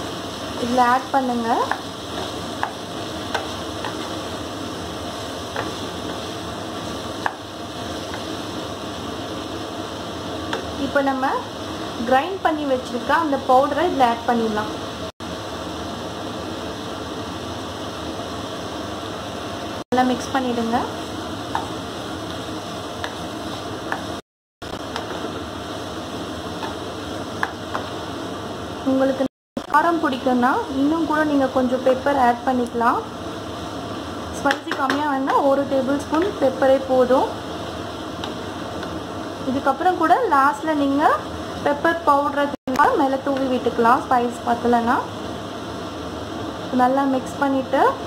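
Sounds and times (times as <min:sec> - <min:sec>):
food sizzling in oil: 0:00.0 - 0:48.0.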